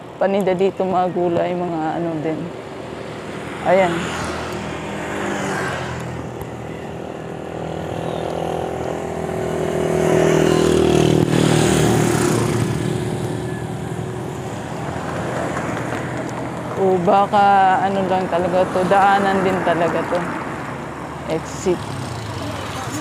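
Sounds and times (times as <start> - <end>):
wind and road noise: 0.0 - 23.0
motorcycle passing by: 2.3 - 23.0.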